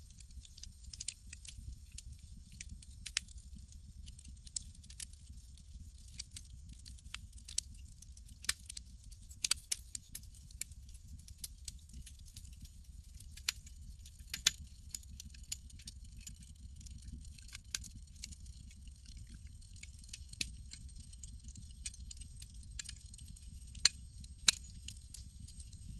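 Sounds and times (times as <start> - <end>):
campfire crackling and popping: 0.1 - 25.9.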